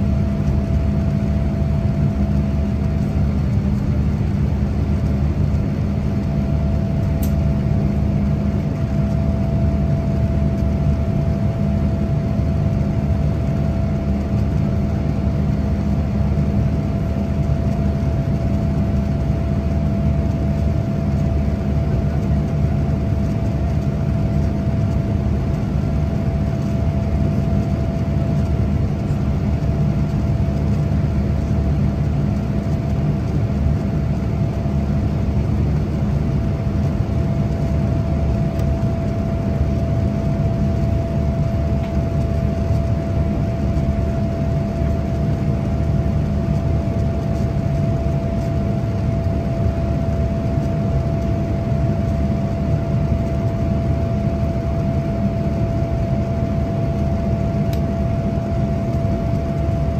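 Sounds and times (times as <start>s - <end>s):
jet engine and airflow rush: 0.0s - 59.9s
mid-pitched whine: 0.0s - 59.9s.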